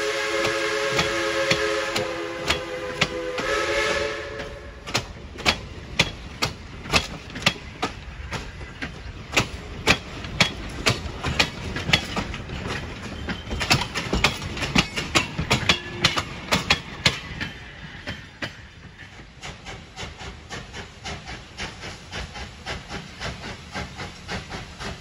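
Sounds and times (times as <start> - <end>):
low rumble of train: 0.0 - 25.0
train wheels clacking over rail joints: 0.0 - 25.0.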